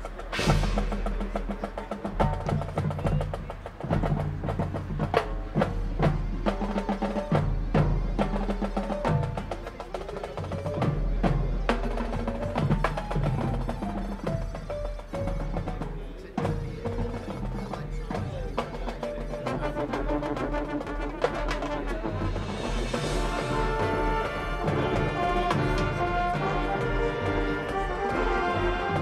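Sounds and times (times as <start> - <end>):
marching band playing: 0.0 - 29.0.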